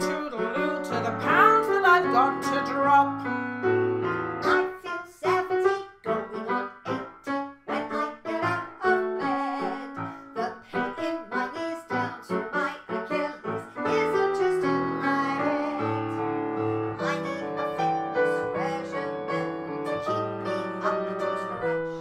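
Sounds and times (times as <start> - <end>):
women singing: 0.0 - 3.1, 4.4 - 7.0, 7.7 - 16.2, 17.0 - 22.0
grand piano chords: 0.0 - 22.0.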